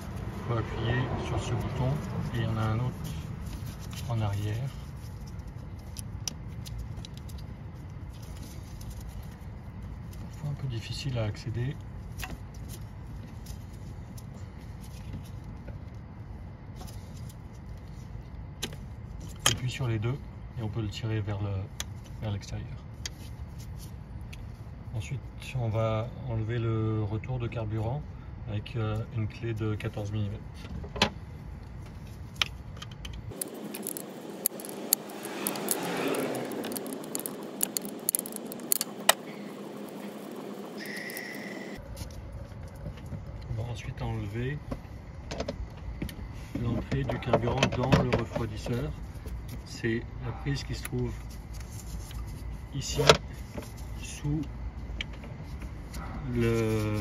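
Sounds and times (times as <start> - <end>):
steady low rumble: 0.0 - 19.2, 19.9 - 47.0
scraping and handling noise: 0.0 - 19.8, 30.0 - 50.0, 50.6 - 57.0.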